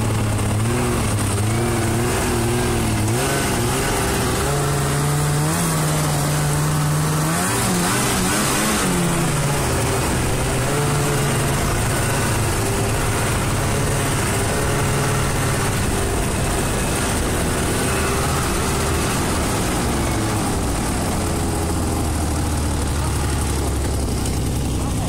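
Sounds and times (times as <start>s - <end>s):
single-cylinder engine running: 0.0s - 25.0s.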